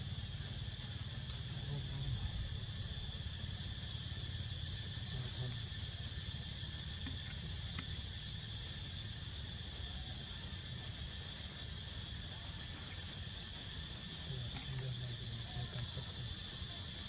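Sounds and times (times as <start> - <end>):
constant hiss: 0.0 - 17.0
insect drone: 0.0 - 17.0.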